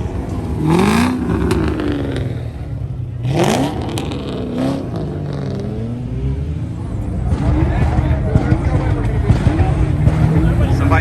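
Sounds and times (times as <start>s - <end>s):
car engine revving: 0.0s - 11.0s
low engine rumble: 0.0s - 11.0s.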